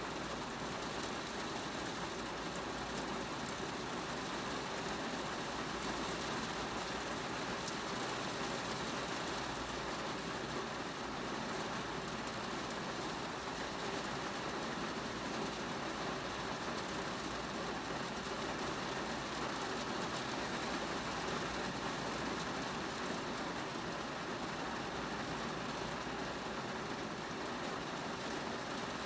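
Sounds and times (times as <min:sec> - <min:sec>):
rain on a car: 0:00.0 - 0:29.0.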